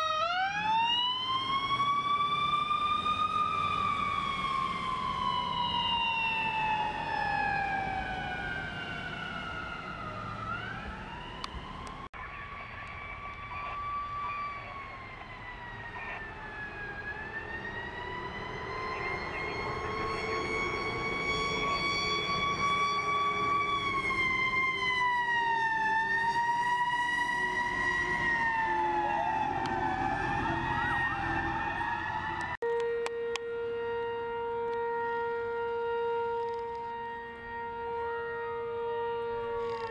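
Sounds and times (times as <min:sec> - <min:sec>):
fire truck sirens wailing: 0:00.0 - 0:39.9.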